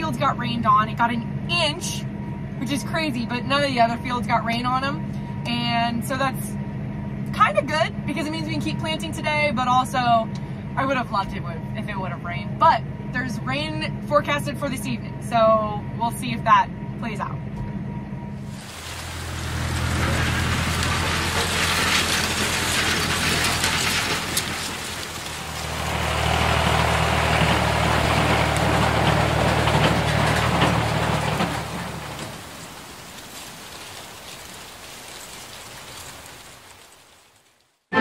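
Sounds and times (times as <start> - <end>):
large engine running: 0.0 - 33.2.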